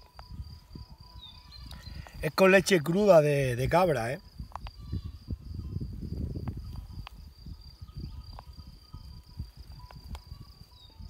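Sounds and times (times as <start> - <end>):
insect trill: 0.0 - 11.0
wind rumble on microphone: 0.0 - 11.0.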